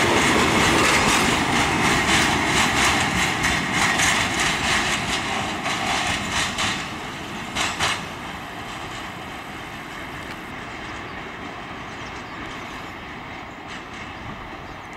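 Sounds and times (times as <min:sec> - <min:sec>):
train rumble: 0:00.0 - 0:14.9
train wheel clatter: 0:00.0 - 0:14.9.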